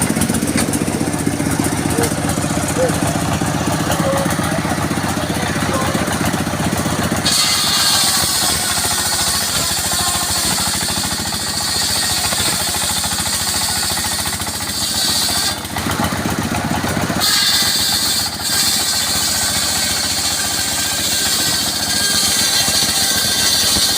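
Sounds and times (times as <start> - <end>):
saw cutting wood hiss: 0.0 - 16.0, 17.2 - 23.9
sawmill engine running: 0.0 - 23.9.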